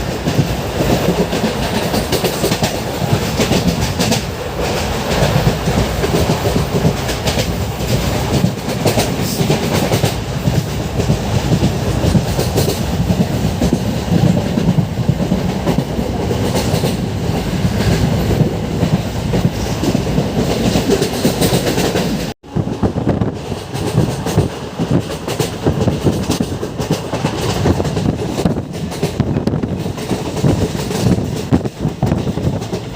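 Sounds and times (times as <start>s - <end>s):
train wheels clacking over rail joints: 0.0s - 32.9s.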